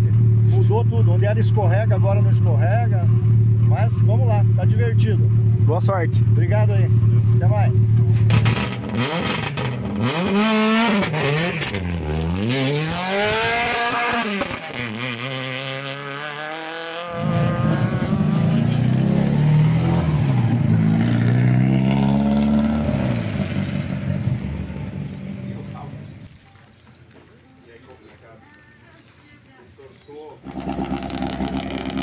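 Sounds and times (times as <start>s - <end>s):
rally car engines revving: 0.0s - 26.3s, 30.4s - 32.0s.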